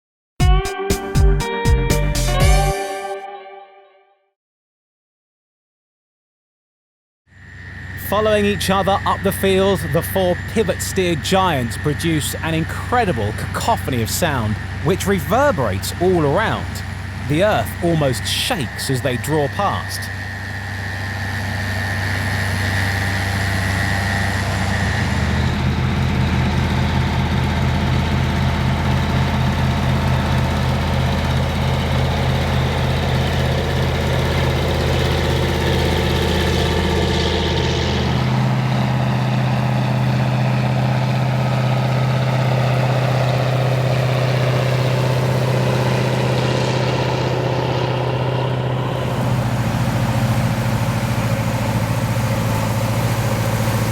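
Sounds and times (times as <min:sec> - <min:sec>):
tractor diesel engines droning: 0:07.4 - 0:53.9.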